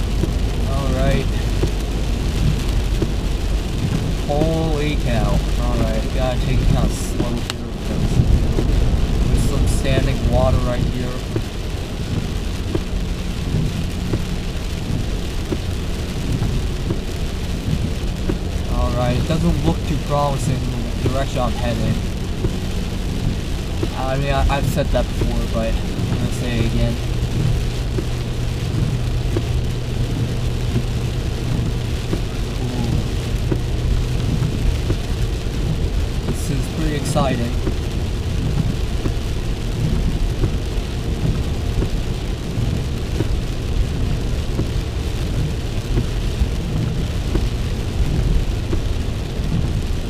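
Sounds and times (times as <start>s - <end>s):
car rolling through water: 0.0s - 50.0s
heavy rain on a car: 0.0s - 50.0s
soft ticking: 0.0s - 50.0s.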